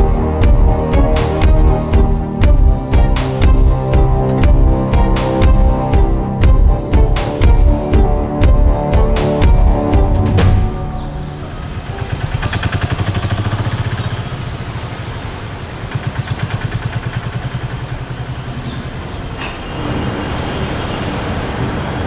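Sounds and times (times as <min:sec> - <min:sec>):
engine running with rapid beat: 0:00.0 - 0:19.0.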